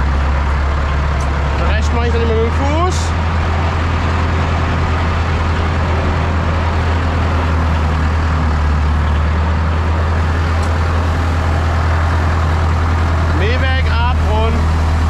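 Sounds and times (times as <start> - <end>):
tractor diesel engine humming: 0.0 - 15.0.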